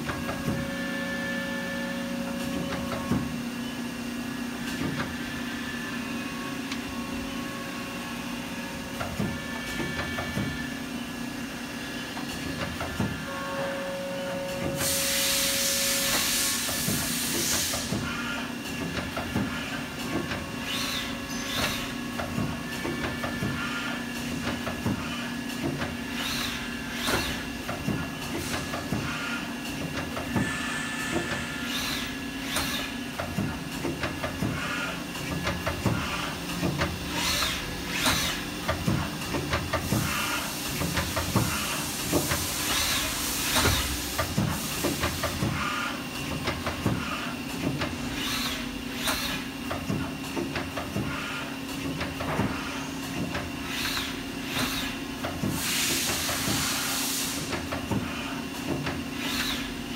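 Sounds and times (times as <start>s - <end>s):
lathe humming and hissing: 0.1s - 59.9s.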